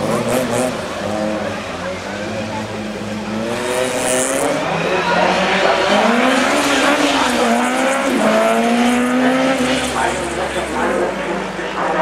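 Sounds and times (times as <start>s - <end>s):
car engine revving hard: 0.0s - 11.4s.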